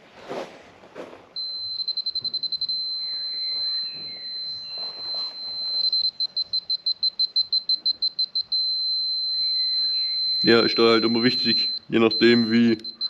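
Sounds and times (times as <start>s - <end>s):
high steady tone: 1.4s - 13.0s
rapid beeping: 1.4s - 13.0s.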